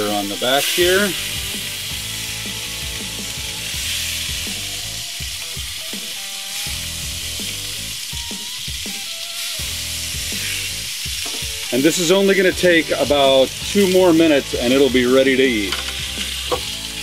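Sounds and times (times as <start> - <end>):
fish sizzling on grill: 0.0 - 17.0.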